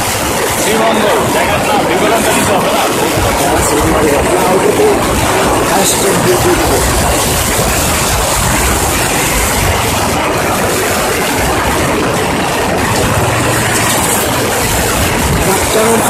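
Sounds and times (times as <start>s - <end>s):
vehicle rumbling on road: 1.5s - 16.0s.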